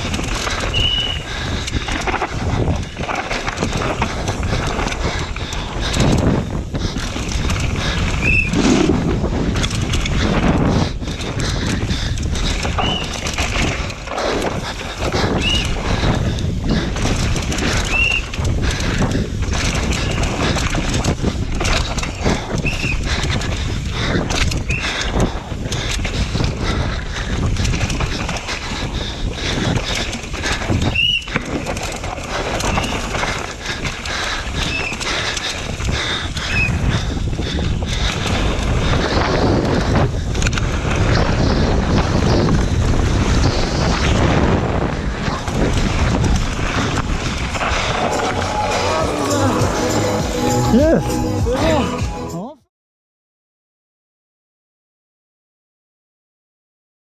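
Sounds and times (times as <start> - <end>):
wind rumbling on microphone: 0.0 - 50.3
bike chain and frame rattling: 0.0 - 51.0
tyres on dirt: 0.0 - 51.8.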